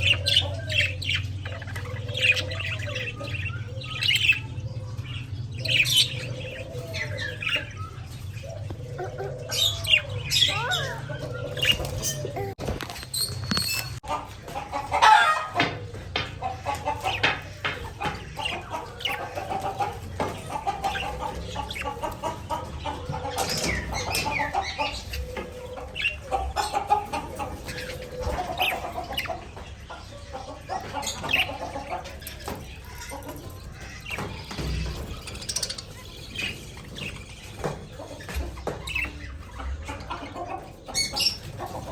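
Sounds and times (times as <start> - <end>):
budgerigars chirping: 0.0 - 12.5, 13.2 - 41.9.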